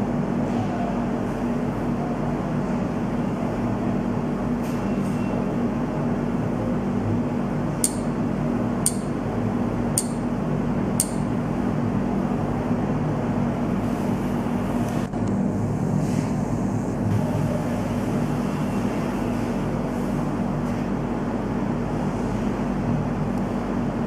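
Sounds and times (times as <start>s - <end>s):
low hum with hiss: 0.0s - 24.0s.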